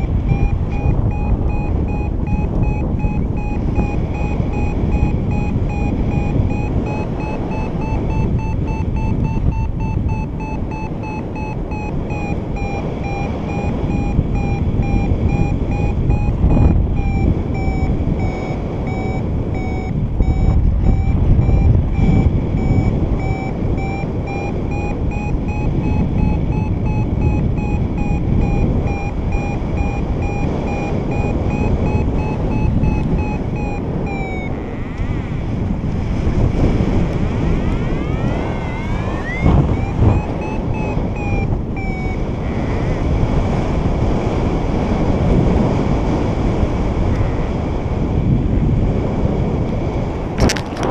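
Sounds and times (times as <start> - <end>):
variometer beeping rapidly: 0.0 - 46.0
wind rumble on microphone: 0.0 - 50.9.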